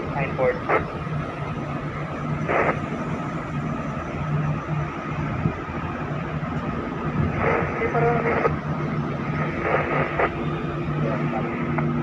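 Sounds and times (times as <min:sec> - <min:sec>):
ship engine-room machinery drone: 0:00.0 - 0:12.0.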